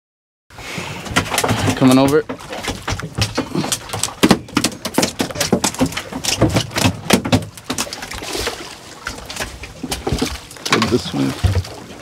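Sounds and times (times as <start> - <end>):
fish flopping on boat deck: 0.5 - 12.0.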